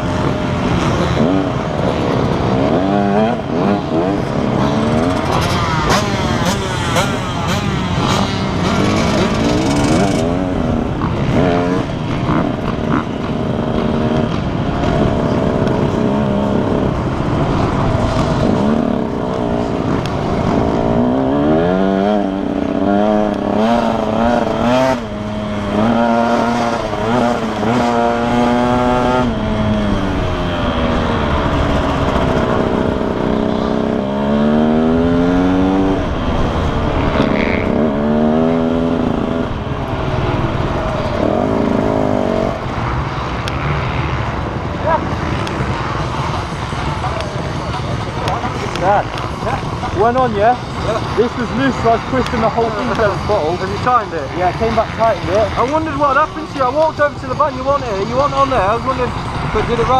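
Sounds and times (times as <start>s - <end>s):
motocross bikes racing past: 0.0s - 59.9s.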